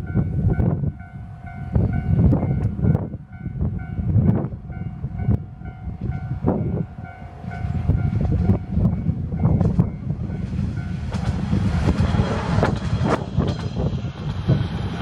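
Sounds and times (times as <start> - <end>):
diesel railcar hum: 0.0 - 15.0
wind buffeting microphone: 0.0 - 15.0.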